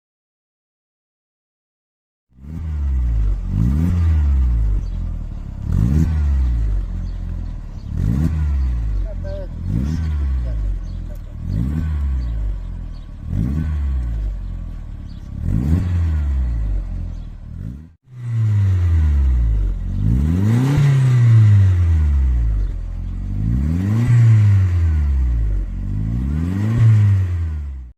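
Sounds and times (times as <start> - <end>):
car engine revving: 2.4 - 27.9.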